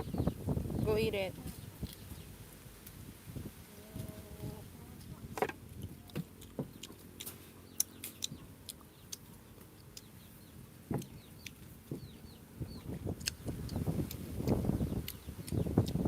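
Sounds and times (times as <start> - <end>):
chicks peeping: 0.0 - 16.0
fruit being peeled and eaten: 1.5 - 3.2, 4.0 - 16.0.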